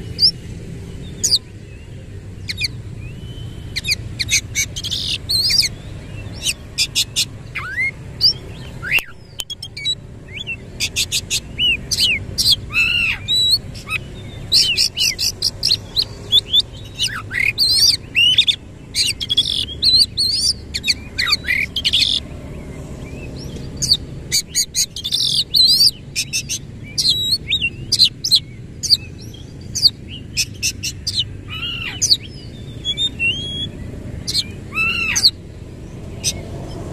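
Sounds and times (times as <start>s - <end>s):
bird singing whistles and chirps: 2.4s - 36.8s.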